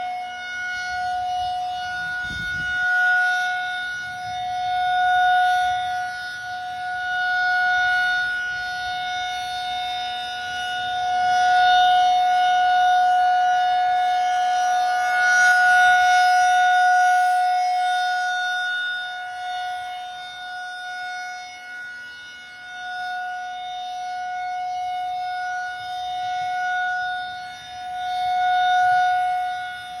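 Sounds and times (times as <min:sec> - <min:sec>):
warning siren steady tone: 0:00.0 - 0:30.0.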